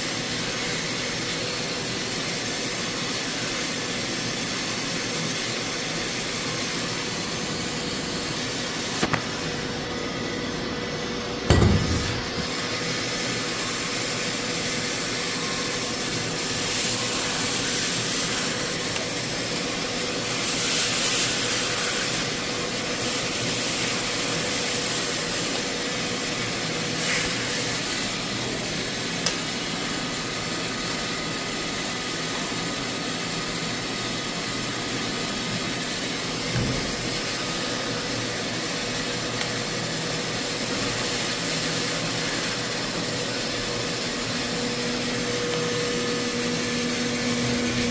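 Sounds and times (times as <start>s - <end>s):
milling machine hum: 0.0s - 47.9s.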